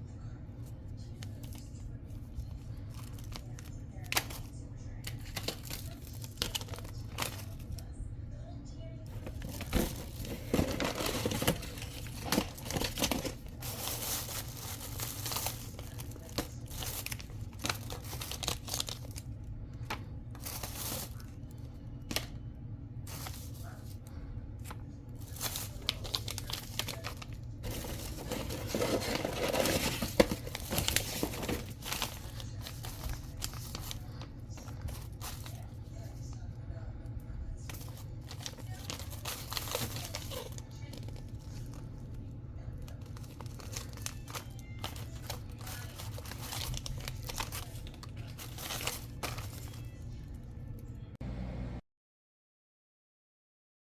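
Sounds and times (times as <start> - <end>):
steady low hum: 0.0 - 51.8
crinkling and rustling: 0.6 - 7.9, 9.0 - 51.0.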